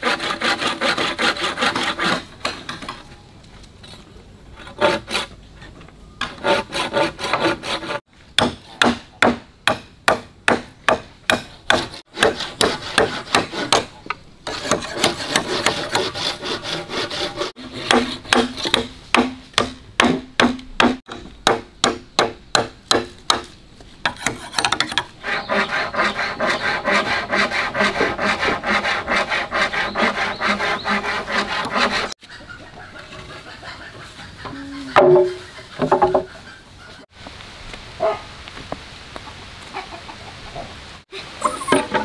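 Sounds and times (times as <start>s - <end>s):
rhythmic scraping on wood: 0.0s - 3.0s, 4.6s - 37.1s.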